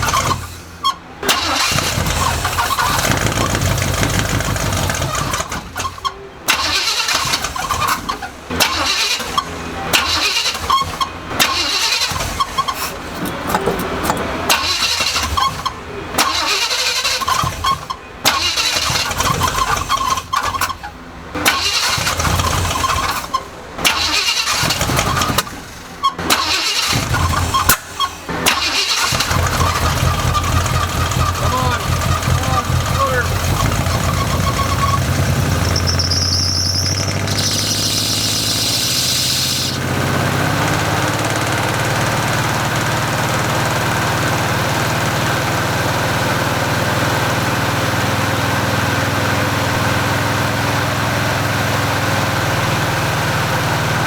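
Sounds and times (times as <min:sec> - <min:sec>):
engine backfiring: 0:00.0 - 0:54.0
truck engine cranking and sputtering: 0:00.0 - 0:54.0.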